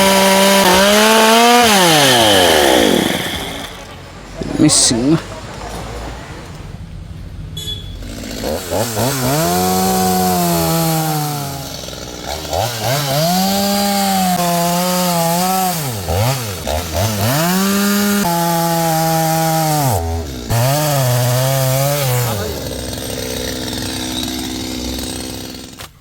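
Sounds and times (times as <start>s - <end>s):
chainsaw revving: 0.0s - 4.0s, 8.0s - 26.0s.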